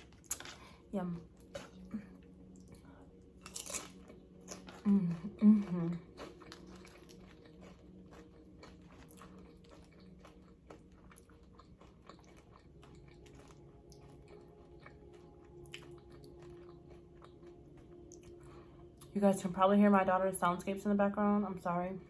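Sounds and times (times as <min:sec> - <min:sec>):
chewing crunchy chips: 0:00.0 - 0:19.1
faint soothing soundscape: 0:00.0 - 0:22.0.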